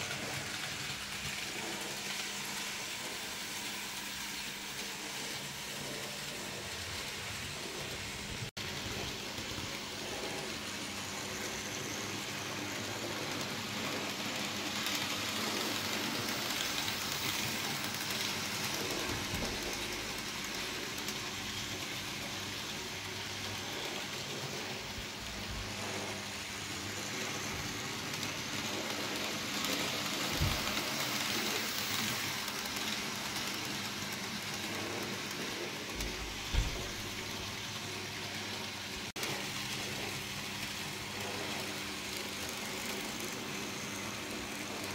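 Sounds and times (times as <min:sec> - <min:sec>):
model train whirring on rails: 0:00.0 - 0:44.9.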